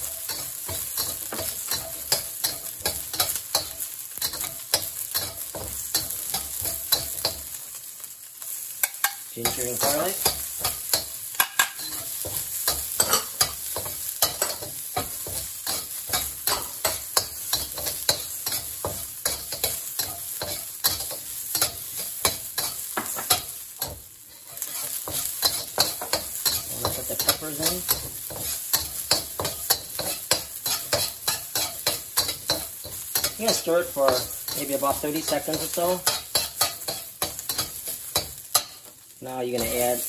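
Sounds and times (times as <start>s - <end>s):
metal spatula scraping a wok: 0.0s - 7.5s, 8.8s - 38.9s
oil sizzling: 0.0s - 40.0s.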